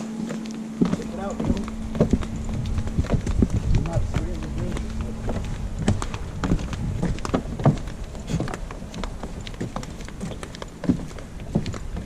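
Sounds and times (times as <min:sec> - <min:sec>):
footsteps on wooden planks: 0:00.0 - 0:12.0.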